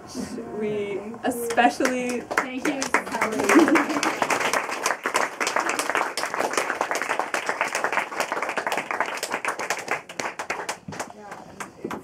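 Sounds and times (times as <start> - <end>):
audience applause: 1.5 - 12.0.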